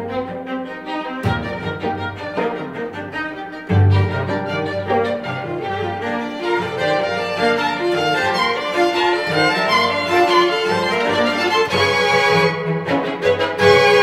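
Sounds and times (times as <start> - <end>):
string quartet playing: 0.0 - 14.0.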